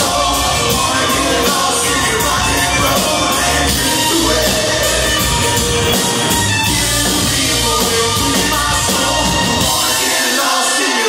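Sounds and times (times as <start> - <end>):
drum kit: 0.0 - 11.0
electric guitar: 0.0 - 11.0.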